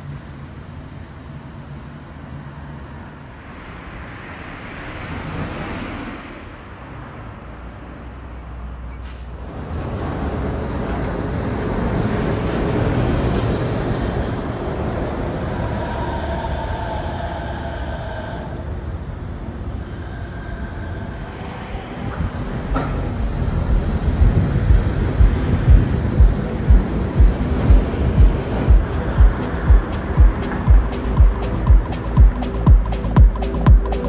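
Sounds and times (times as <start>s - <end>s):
monorail train passing: 0.0s - 34.0s.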